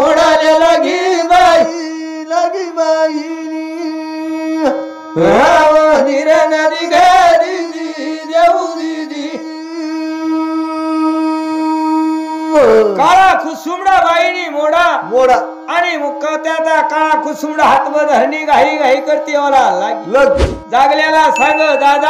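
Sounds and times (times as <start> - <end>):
man singing a chant: 0.0 - 20.2.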